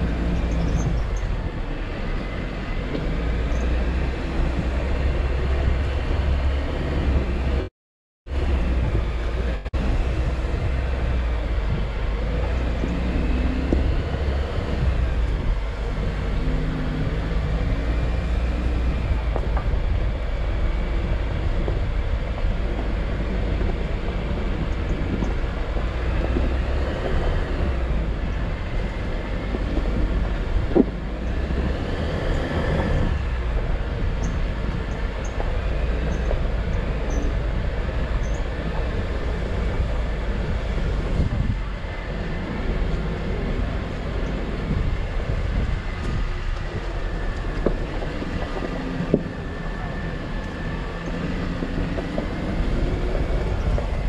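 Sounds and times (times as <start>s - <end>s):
vehicle driving on dirt trail: 0.0s - 7.7s, 8.3s - 54.0s.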